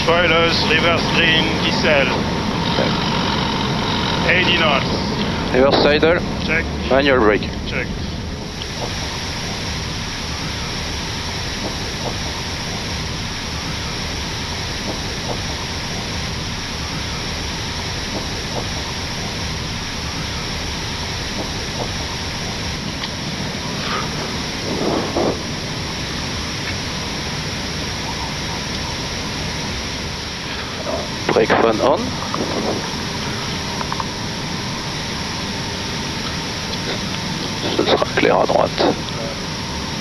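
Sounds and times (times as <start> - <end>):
aircraft cockpit engine noise: 0.0 - 40.0.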